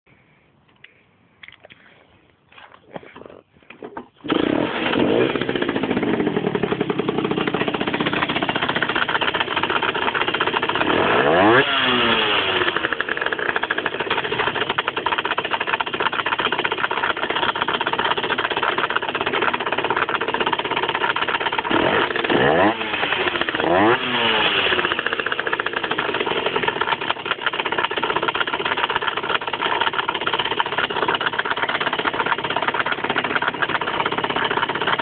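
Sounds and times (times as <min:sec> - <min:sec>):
motorcycle engine idling and revving: 0:03.8 - 0:35.0.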